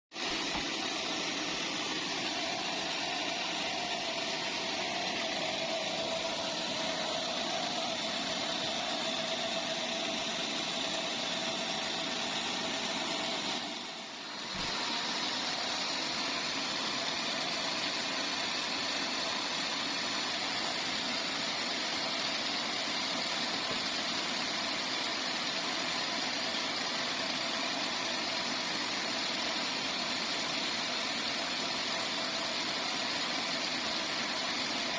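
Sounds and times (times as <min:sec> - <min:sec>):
bandsaw machinery running: 0:00.1 - 0:34.9.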